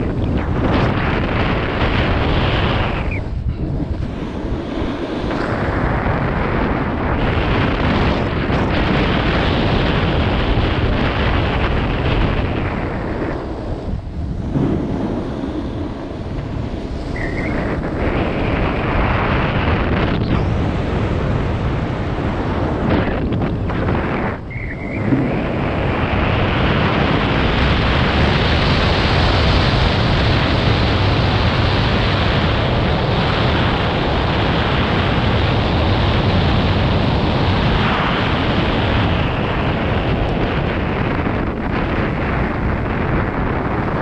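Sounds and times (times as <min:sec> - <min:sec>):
snowboard scraping over snow: 0:00.0 - 0:44.0
wind rushing over microphone: 0:00.0 - 0:44.0.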